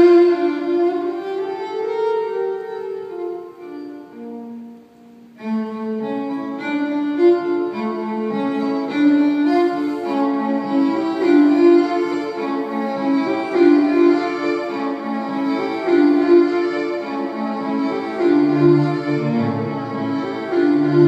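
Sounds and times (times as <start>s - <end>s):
solo violin melody: 0.0s - 21.0s.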